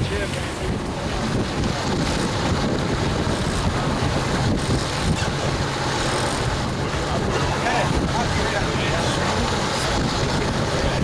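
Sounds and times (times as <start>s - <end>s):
boat engine droning: 0.0s - 11.0s
wind buffeting microphone: 0.0s - 11.0s.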